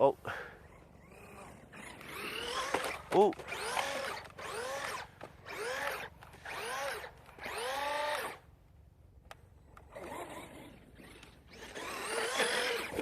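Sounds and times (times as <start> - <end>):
electric motor whining: 0.6 - 8.4, 9.9 - 13.0.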